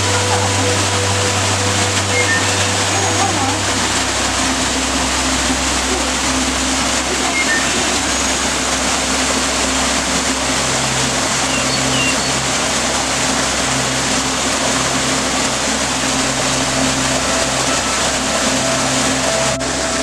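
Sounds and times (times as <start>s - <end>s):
waterfall pouring into pool: 0.0s - 20.0s.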